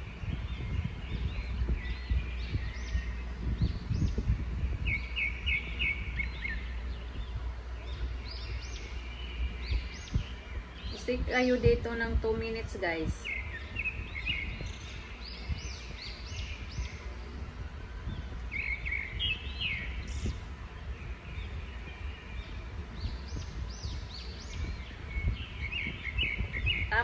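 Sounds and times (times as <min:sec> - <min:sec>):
low background rumble: 0:00.0 - 0:27.0
small birds chirping: 0:00.0 - 0:27.0.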